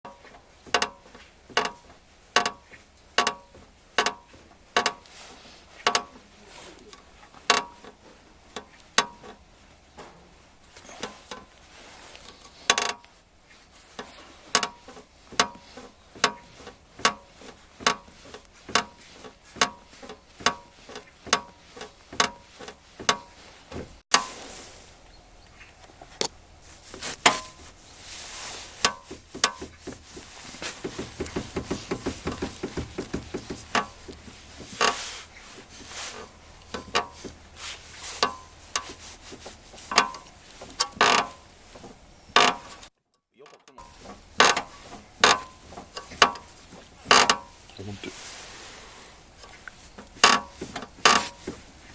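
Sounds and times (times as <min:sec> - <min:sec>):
seat rail creaking and squeaking: 0:00.1 - 0:10.1, 0:10.7 - 0:24.3, 0:25.5 - 0:48.4, 0:49.0 - 0:51.9.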